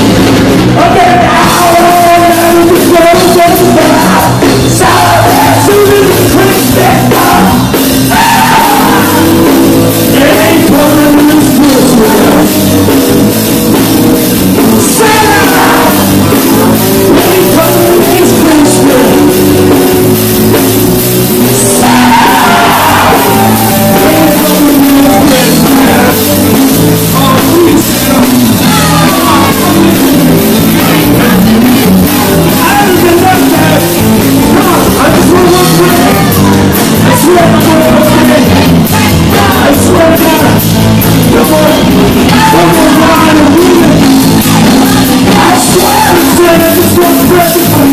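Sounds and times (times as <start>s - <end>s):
drums: 0.0s - 47.9s
electric guitar: 0.0s - 47.9s
person singing into a microphone: 0.7s - 13.2s, 14.5s - 19.9s, 21.4s - 47.9s.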